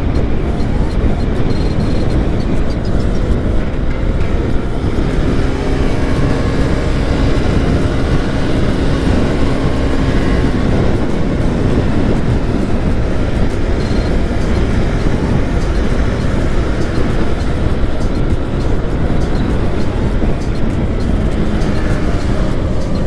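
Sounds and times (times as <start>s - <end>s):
faint engine hum: 0.0s - 23.0s
heavy wind noise: 0.0s - 23.0s.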